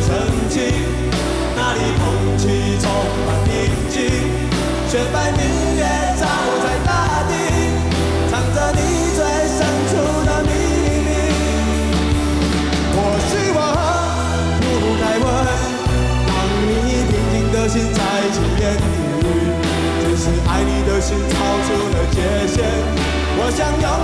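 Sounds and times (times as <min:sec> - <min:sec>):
person singing: 0:00.0 - 0:24.0
sustained bass notes: 0:00.0 - 0:24.0.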